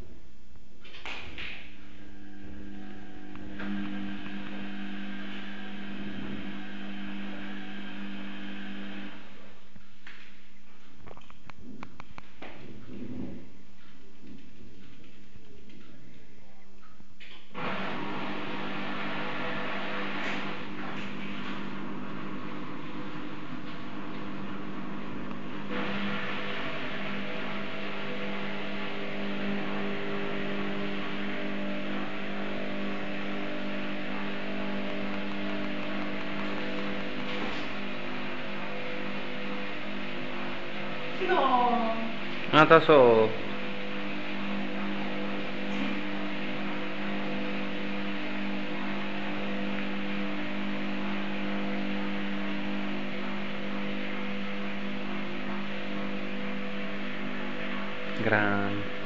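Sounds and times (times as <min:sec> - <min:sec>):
droning hum: 0:00.0 - 0:59.0.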